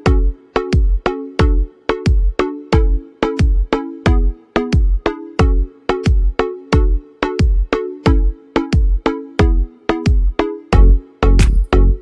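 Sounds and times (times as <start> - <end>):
electronic beat with deep kick: 0.0 - 12.0.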